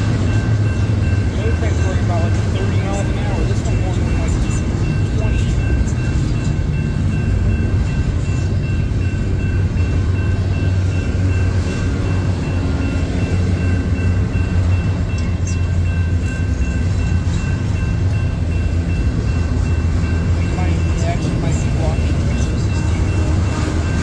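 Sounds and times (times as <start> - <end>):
crossing warning bell: 0.0 - 24.0
freight train wheels rumbling: 0.0 - 24.0
train clanks: 0.0 - 24.0.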